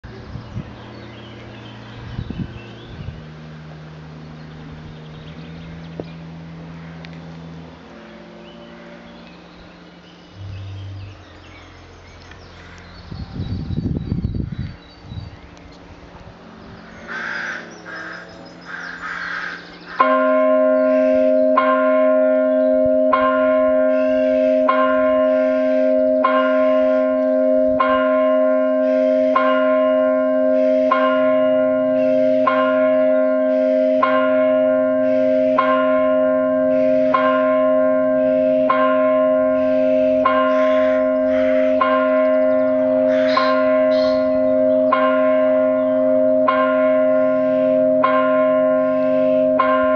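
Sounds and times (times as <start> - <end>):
church bell tolling: 3.2 - 13.5, 16.9 - 49.9.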